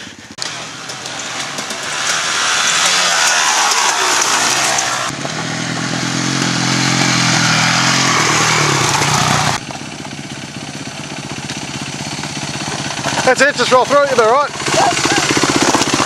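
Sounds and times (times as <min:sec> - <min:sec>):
dirt bike engines running: 0:00.0 - 0:16.0.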